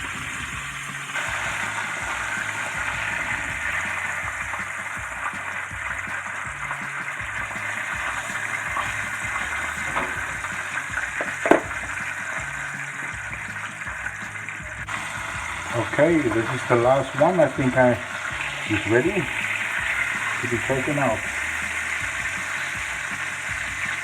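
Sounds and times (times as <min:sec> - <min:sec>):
chicken sizzling in hot oil: 0:00.0 - 0:24.0
oil crackles and pops: 0:00.0 - 0:24.0.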